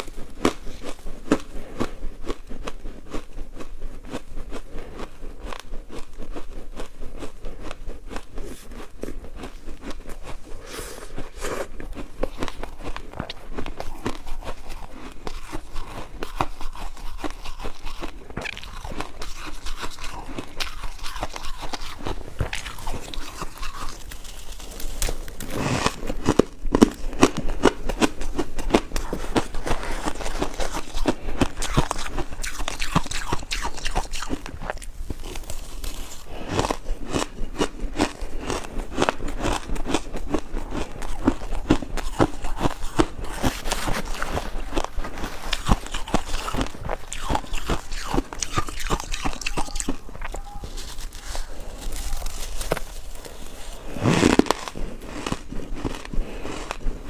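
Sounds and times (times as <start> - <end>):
ice cubes crunching: 8.4 - 57.0.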